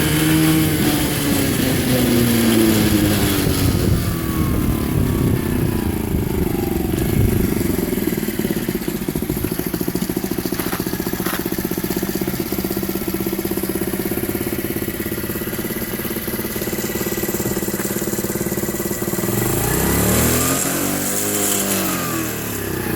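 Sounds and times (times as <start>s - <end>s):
motorcycle engine revving and idling: 0.0s - 22.9s.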